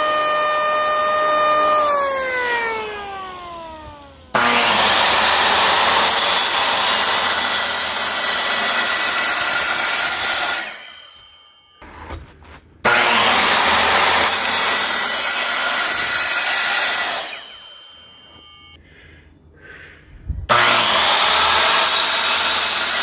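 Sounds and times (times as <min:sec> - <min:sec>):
electric miter saw cutting wood: 0:00.0 - 0:11.3, 0:12.8 - 0:18.8, 0:20.5 - 0:23.0.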